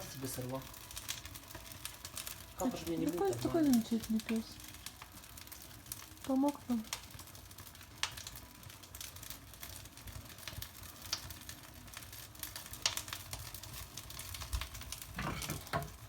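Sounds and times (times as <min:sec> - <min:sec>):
bark crackling in a fireplace: 0:00.0 - 0:16.0.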